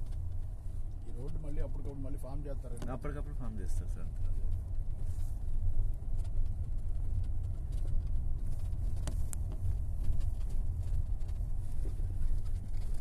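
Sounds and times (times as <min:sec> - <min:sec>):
car rumbling over rough ground: 0:00.0 - 0:13.0.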